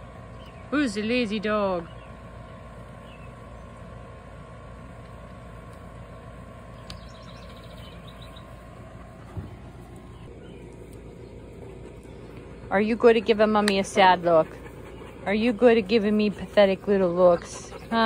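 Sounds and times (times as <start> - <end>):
outdoor background hum: 0.0 - 18.0.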